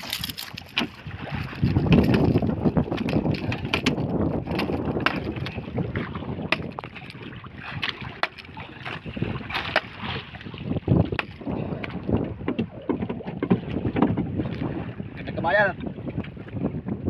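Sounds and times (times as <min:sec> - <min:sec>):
water noise around a boat: 0:00.0 - 0:17.0
wind buffeting the microphone: 0:00.0 - 0:17.0.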